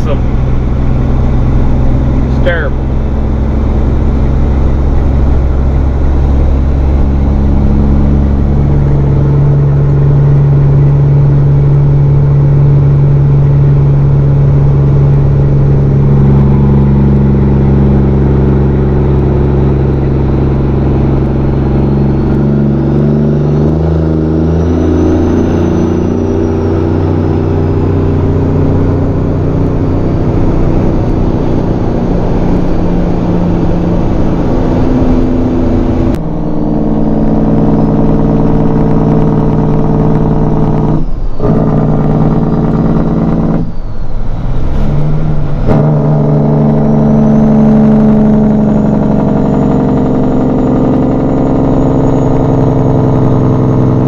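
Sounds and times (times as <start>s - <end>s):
road noise: 0.0s - 54.0s
truck engine running: 0.0s - 54.0s.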